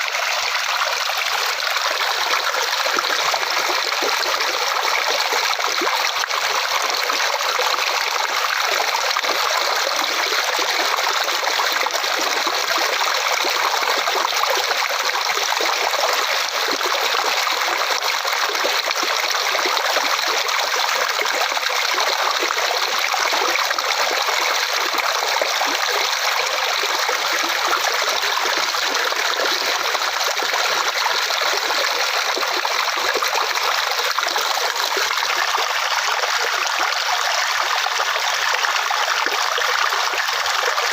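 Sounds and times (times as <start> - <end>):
stream running and trickling: 0.0 - 40.9.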